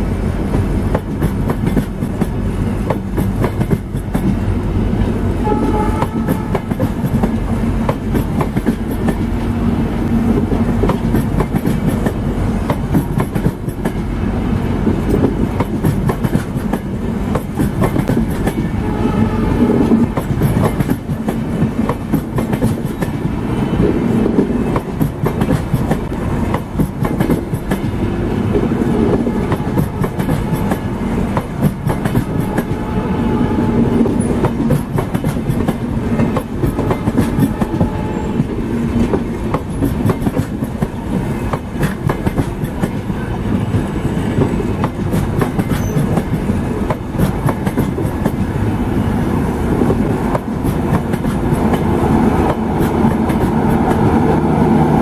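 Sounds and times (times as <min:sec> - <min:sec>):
train wheels clattering on rails: 0:00.0 - 0:32.9, 0:33.7 - 0:55.0
train rumble: 0:00.0 - 0:55.0.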